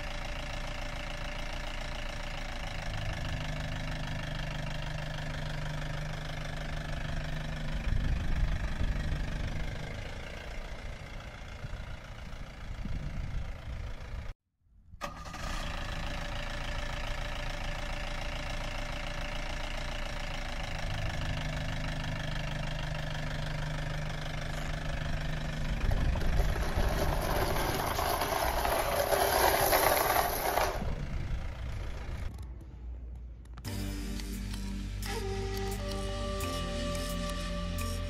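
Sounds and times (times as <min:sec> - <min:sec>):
jeep engine running: 0:00.0 - 0:14.3, 0:15.3 - 0:38.0.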